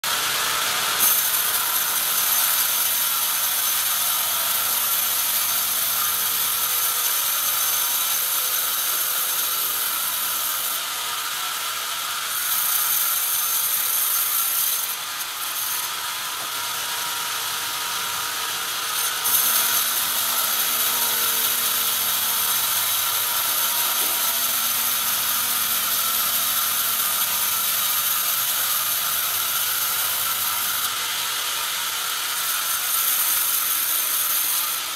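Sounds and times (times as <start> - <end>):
band saw cutting log: 0.0 - 34.9.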